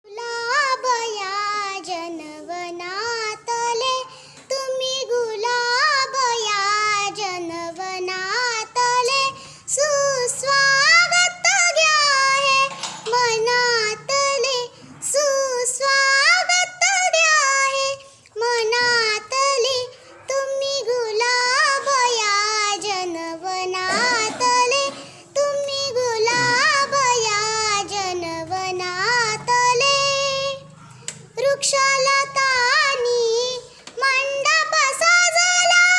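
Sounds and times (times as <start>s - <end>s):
girl singing: 0.0s - 35.9s.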